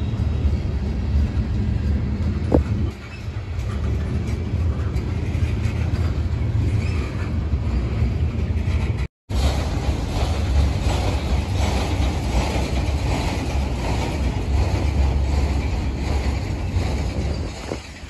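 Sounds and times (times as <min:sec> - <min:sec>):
freight train wheels clattering on rails: 0:00.0 - 0:18.0.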